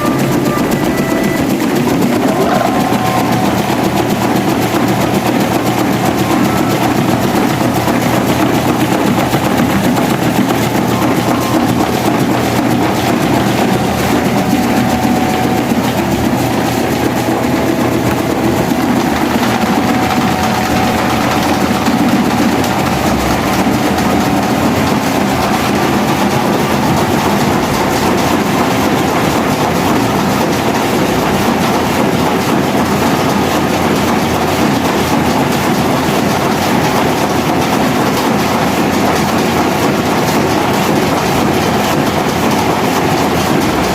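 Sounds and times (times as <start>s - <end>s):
electric fans whirring: 0.0s - 43.9s
fan rattle: 0.0s - 43.9s.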